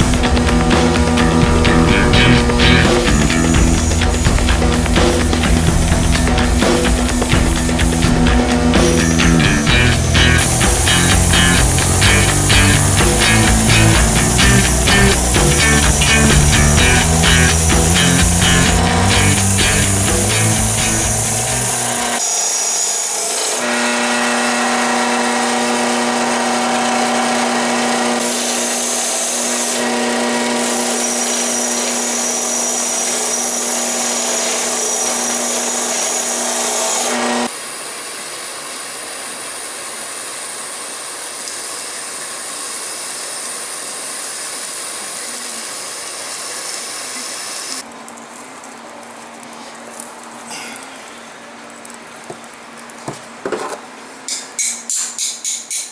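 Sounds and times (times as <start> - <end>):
electric drill motor whine: 0.0 - 47.8.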